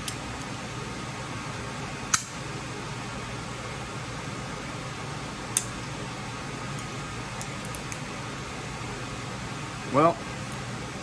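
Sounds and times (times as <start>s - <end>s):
fan-like hum: 0.0s - 11.0s.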